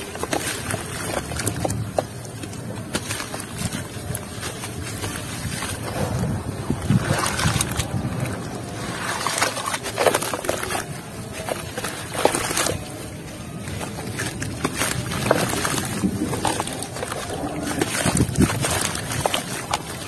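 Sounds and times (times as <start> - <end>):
hands sloshing mud in water: 0.0 - 20.0
wet clay crunching: 0.0 - 20.0.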